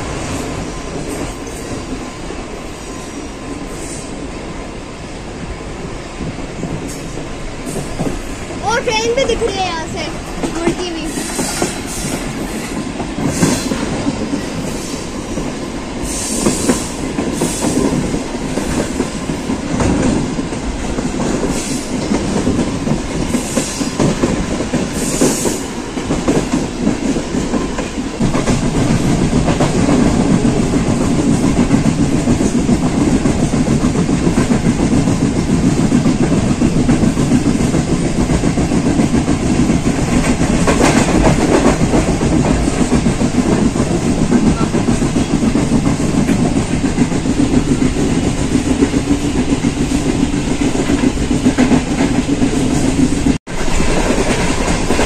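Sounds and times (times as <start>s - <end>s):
train rumbling: 0.0s - 55.0s
wheels clattering on rails: 6.6s - 55.0s.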